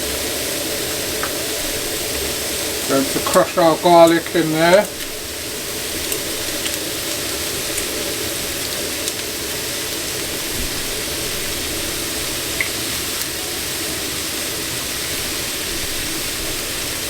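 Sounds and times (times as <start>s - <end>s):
peppers sizzling in a pot: 0.0s - 17.0s.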